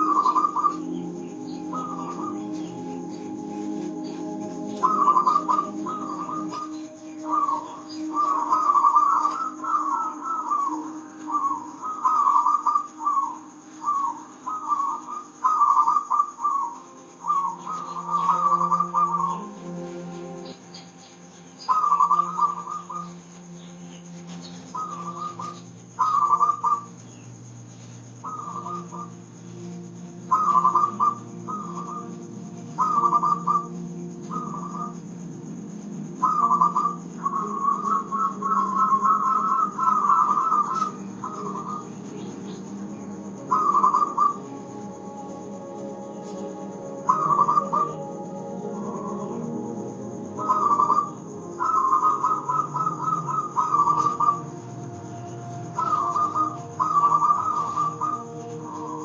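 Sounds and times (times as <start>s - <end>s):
dove trilled cooing: 0.0s - 59.0s
faint soft instrumental music: 0.0s - 59.0s.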